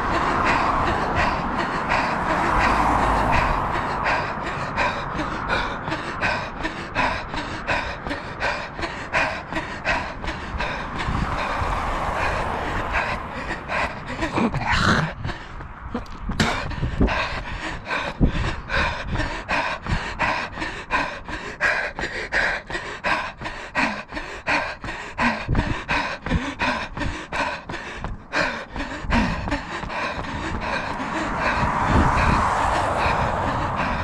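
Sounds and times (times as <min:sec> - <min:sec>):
runner panting: 0:00.0 - 0:34.0
footfalls on paved path: 0:05.5 - 0:34.0.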